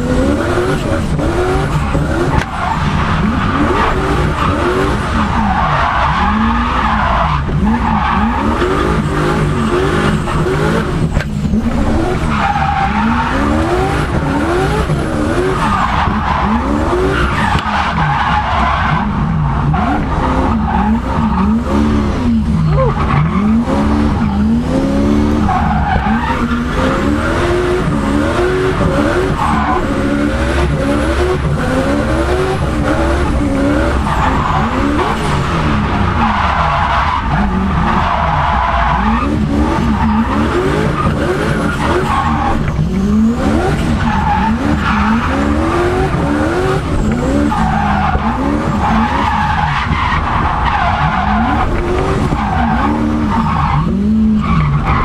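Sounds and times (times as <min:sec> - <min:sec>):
car engine revving: 0:00.0 - 0:55.0
tyres squealing and skidding: 0:00.0 - 0:55.0.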